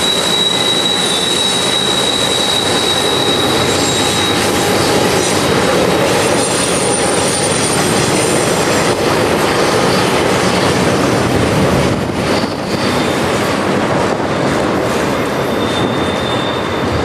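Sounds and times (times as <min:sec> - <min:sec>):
high wheel squeal: 0:00.0 - 0:13.7, 0:15.2 - 0:17.0
freight train wheels rumbling: 0:00.0 - 0:17.0.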